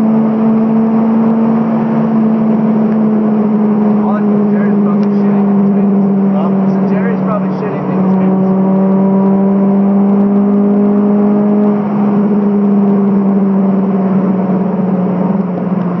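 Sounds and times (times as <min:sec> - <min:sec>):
car engine droning at high revs: 0:00.0 - 0:16.0.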